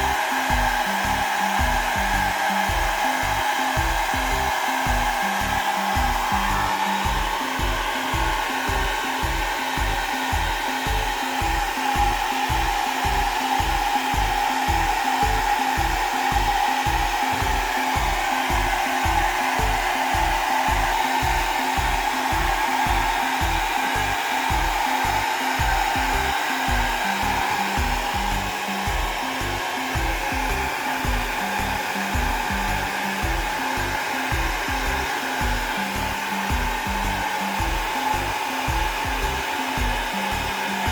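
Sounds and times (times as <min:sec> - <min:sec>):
hair dryer blowing: 0:00.0 - 0:40.9
low pulsing: 0:00.0 - 0:40.9.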